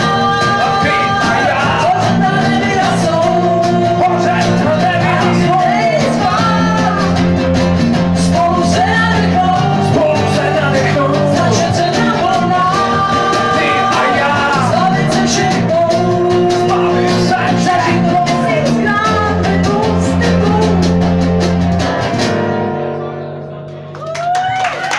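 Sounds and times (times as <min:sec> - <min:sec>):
man and woman singing: 0:00.0 - 0:21.1
strummed acoustic guitars: 0:00.0 - 0:23.9.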